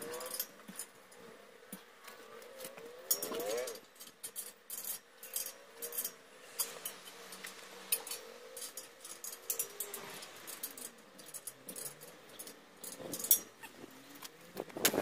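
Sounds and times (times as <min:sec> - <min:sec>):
hand tools clinking on steel: 0:00.0 - 0:15.0.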